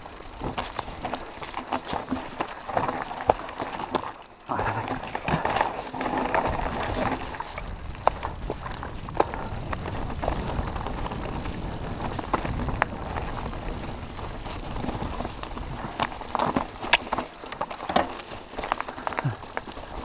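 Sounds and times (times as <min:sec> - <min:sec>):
bike clicks and rattles: 0:00.0 - 0:20.0
tyres rolling over dirt and stones: 0:00.0 - 0:20.0.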